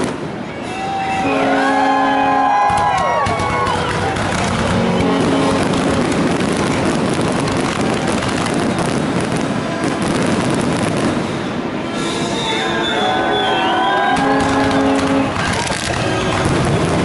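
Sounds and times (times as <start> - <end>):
fireworks crackling: 0.0 - 1.5, 2.5 - 17.0.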